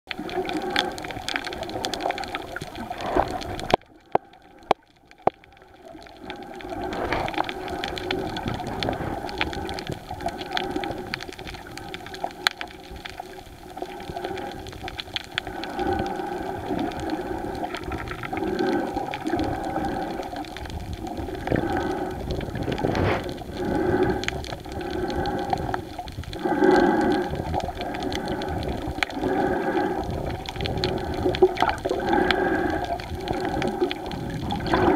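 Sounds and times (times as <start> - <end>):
underwater water rushing: 0.1 - 34.9.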